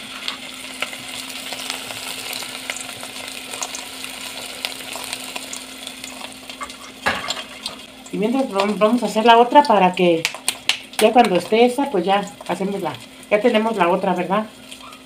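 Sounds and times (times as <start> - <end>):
dough deep-frying in hot oil: 0.0 - 15.0.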